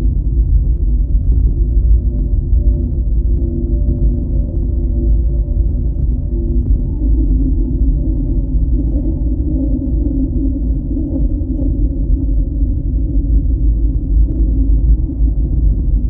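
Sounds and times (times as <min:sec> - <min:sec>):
deep rumbling drone: 0:00.0 - 0:16.0.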